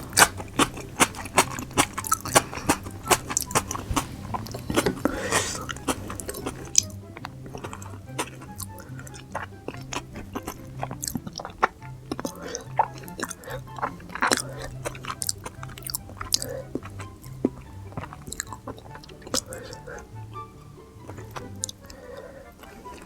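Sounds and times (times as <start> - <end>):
crisp chewing of food: 0.0 - 23.0
soft background music: 0.0 - 23.0.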